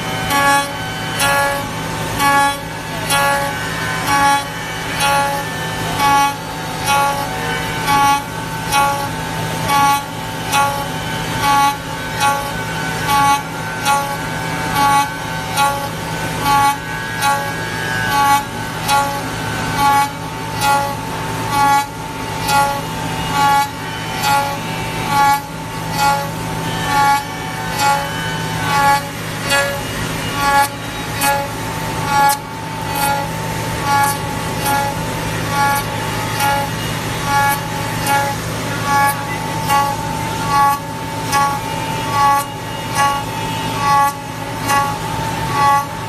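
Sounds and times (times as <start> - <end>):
cnc router spindle whining: 0.0 - 46.0
router cutting wood: 0.0 - 46.0.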